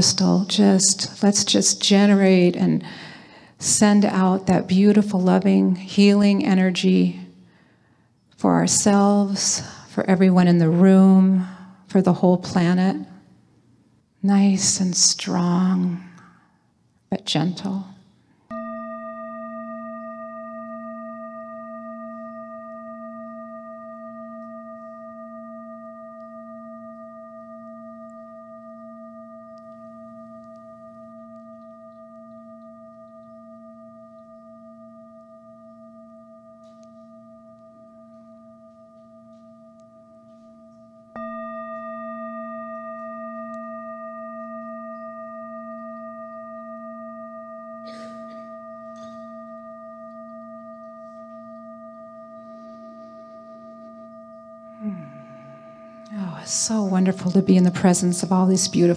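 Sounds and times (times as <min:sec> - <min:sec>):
singing bowl ringing: 0:00.0 - 0:58.9.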